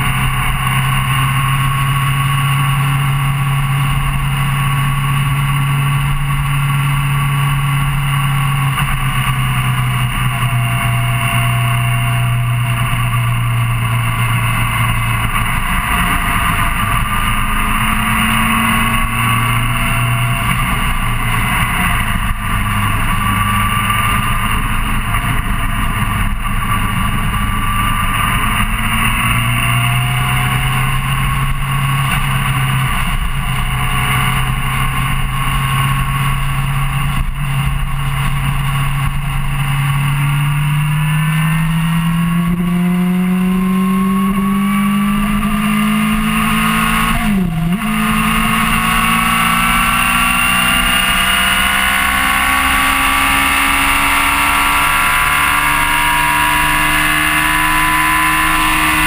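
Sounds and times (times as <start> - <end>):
motorcycle engine cruising: 0.0 - 59.0
wind and road noise: 0.0 - 59.0.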